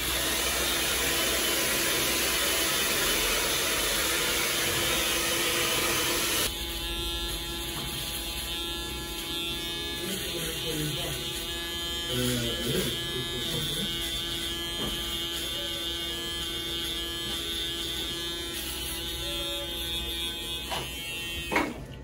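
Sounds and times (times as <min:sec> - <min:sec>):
electric beard trimmer buzzing: 0:00.0 - 0:21.9.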